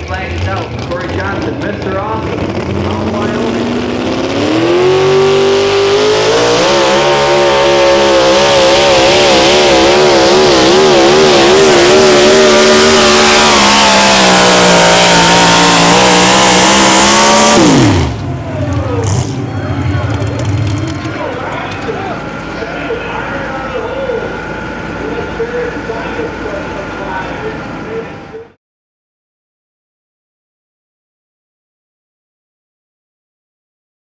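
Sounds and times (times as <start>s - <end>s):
engine at full throttle: 0.0s - 28.6s.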